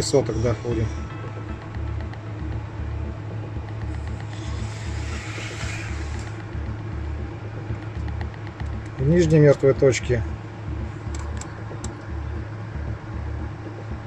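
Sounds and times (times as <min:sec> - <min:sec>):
low mechanical hum: 0:00.0 - 0:14.0
pulsing rumble: 0:00.0 - 0:14.0.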